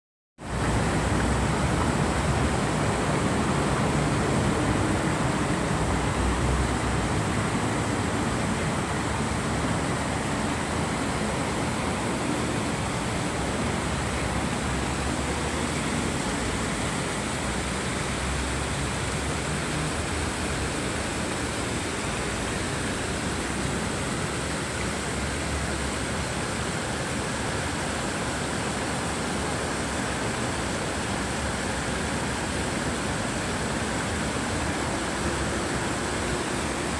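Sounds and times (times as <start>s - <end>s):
fountain water splashing: 0.4s - 36.9s.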